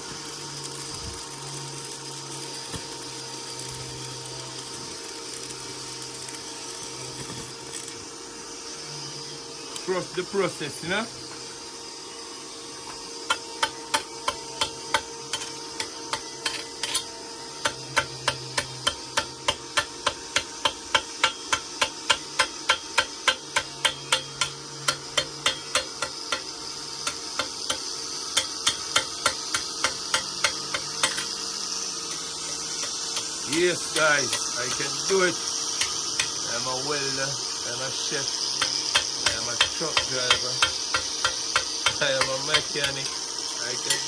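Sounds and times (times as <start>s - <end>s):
steady hum: 0.0s - 44.0s.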